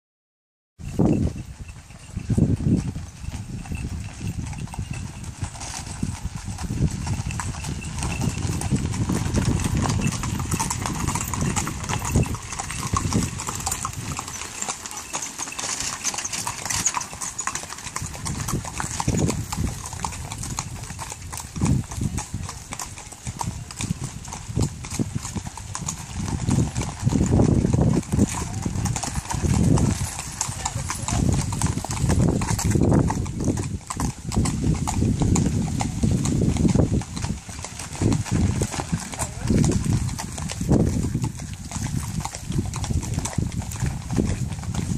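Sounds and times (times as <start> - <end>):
hooves clip-clopping on gravel: 0.8 - 44.9
horse-drawn cart rolling: 0.8 - 44.9
wagon wheels rumbling on gravel: 0.8 - 44.9.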